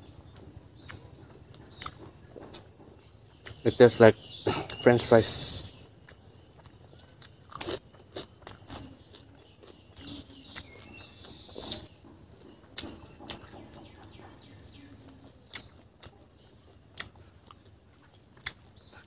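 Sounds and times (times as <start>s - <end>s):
chewing fried potato: 0.1s - 3.6s, 5.7s - 19.0s.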